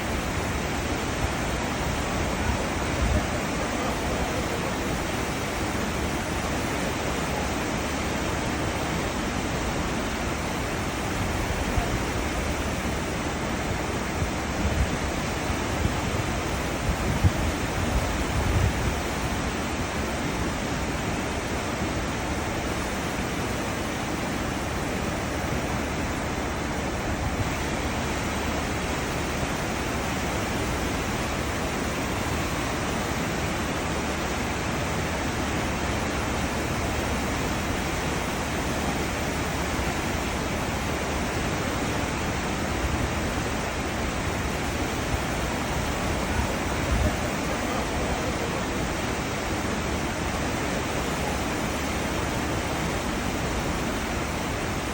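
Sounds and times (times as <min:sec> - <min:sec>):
churning water rushing: 0:00.0 - 0:54.9.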